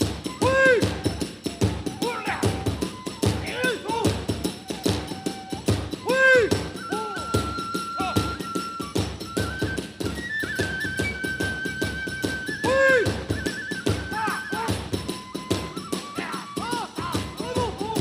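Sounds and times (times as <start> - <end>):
bamboo flute trilling high notes: 0.0 - 18.0
small hand cymbals: 0.0 - 18.0.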